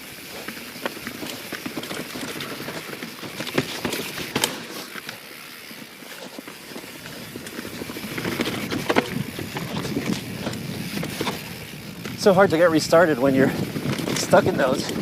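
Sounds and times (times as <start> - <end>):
bike knocks and clicks: 0.3 - 12.3, 13.1 - 15.0.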